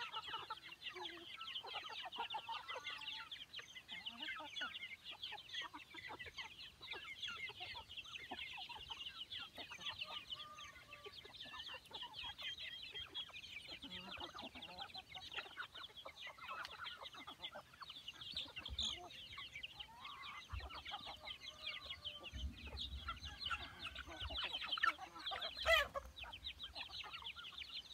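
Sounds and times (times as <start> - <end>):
chickens clucking: 0.0 - 27.9.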